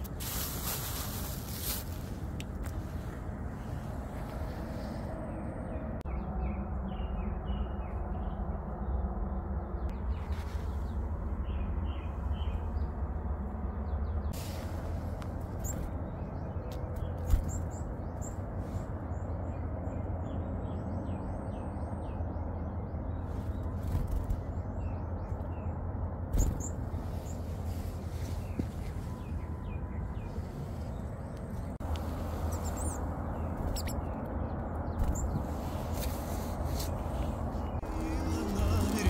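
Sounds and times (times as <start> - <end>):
songbirds chirping: 0.0 - 39.0
steady low rumble: 0.0 - 39.0.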